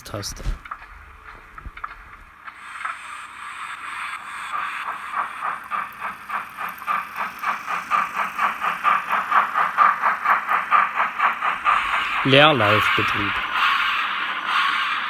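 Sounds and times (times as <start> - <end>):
steam locomotive chuffs from small loudspeaker: 2.3 - 15.0.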